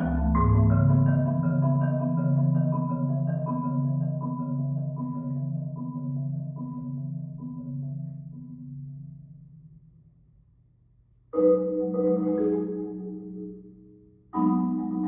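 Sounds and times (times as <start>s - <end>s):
marimba playing slowly: 0.0s - 9.9s, 11.3s - 15.0s.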